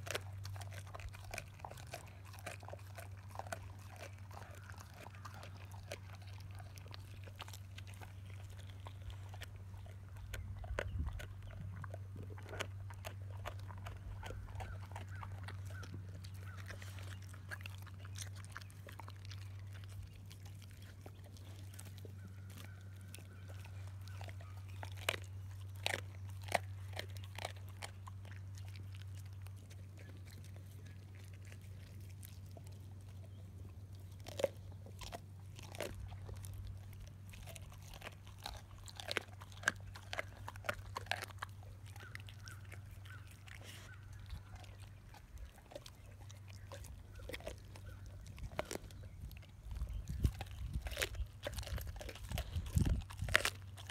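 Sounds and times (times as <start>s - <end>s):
dogs chewing bones: 0.0s - 53.9s.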